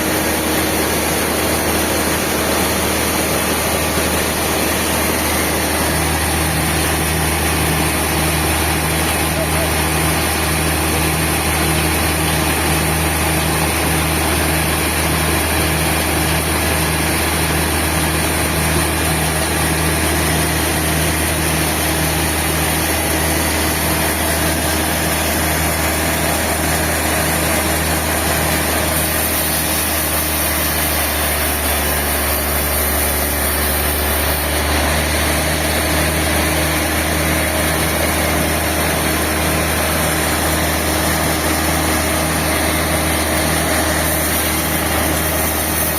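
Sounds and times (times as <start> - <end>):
sawmill machinery humming: 0.0 - 45.9.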